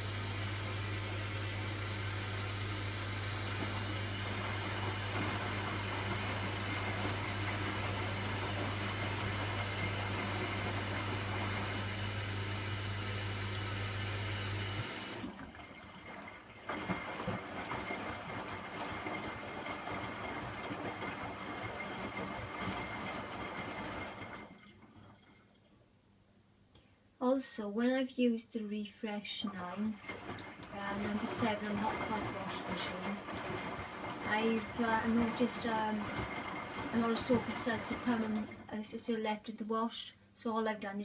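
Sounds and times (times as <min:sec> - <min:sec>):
washing machine motor hum: 0:00.0 - 0:25.6, 0:29.1 - 0:39.9.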